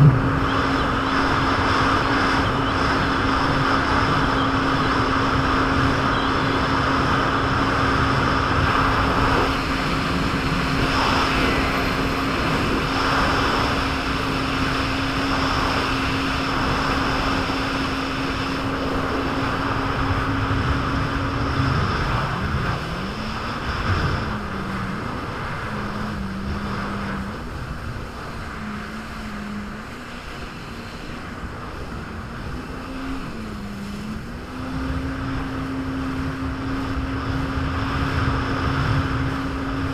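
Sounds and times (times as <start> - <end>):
jet ski engine: 0.0 - 39.9
rushing water: 0.0 - 39.9
rushing wind: 0.0 - 39.9.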